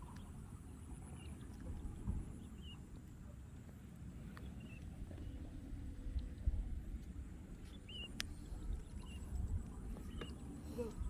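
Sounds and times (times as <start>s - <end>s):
wind on microphone: 0.0s - 2.9s, 4.1s - 11.0s.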